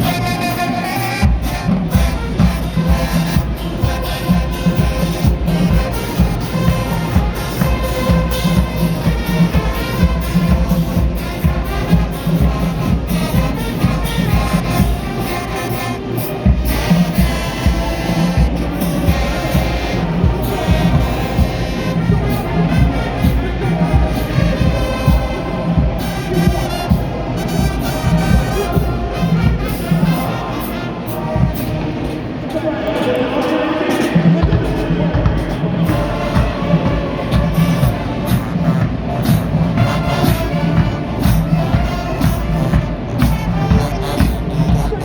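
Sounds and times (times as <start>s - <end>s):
drums beating: 0.0s - 45.0s
marching band brass: 0.0s - 45.0s.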